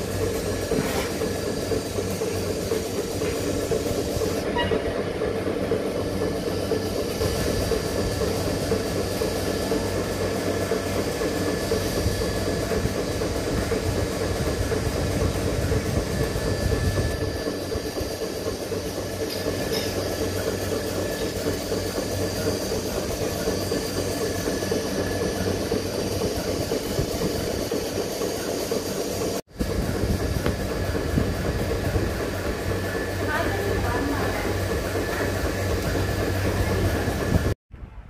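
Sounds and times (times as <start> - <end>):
milking machine vacuum hum: 0.0 - 37.6.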